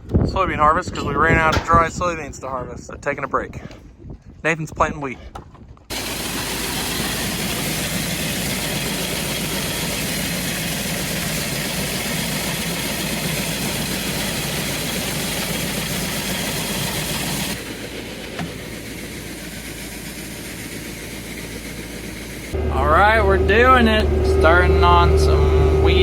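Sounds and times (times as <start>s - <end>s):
tractor engine running: 0.0s - 2.6s, 5.9s - 26.0s.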